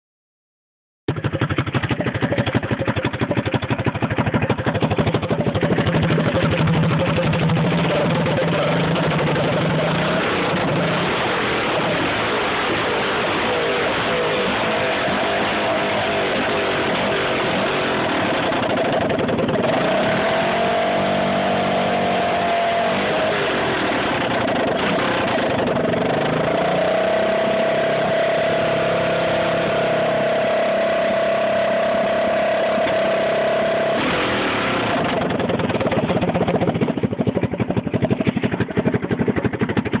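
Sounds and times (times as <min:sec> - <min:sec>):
atv engine revving: 0:01.1 - 0:40.0.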